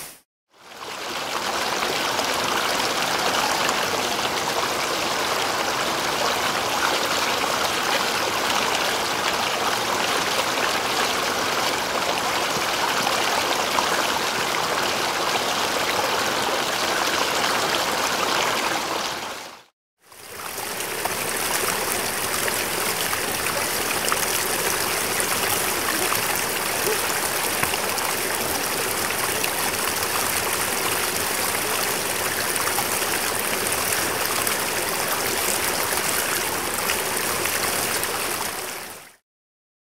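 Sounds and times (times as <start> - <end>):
stream flowing over rocks: 0.0 - 39.2.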